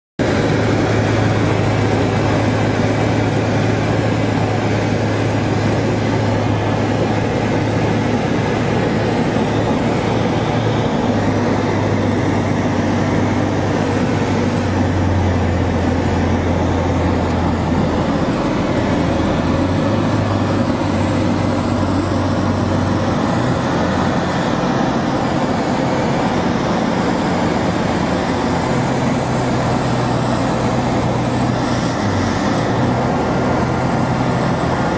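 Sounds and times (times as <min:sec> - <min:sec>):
propeller aircraft engine droning: 0:00.2 - 0:34.9.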